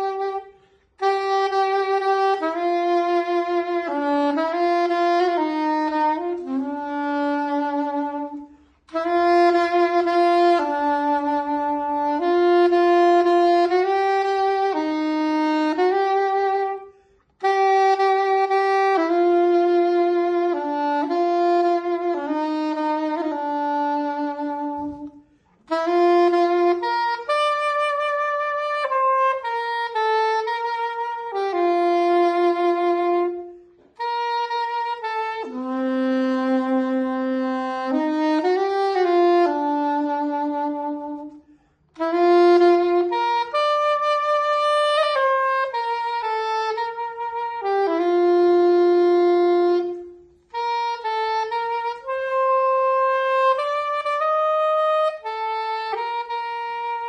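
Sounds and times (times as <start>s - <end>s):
soprano saxophone solo melody: 0.0s - 57.0s.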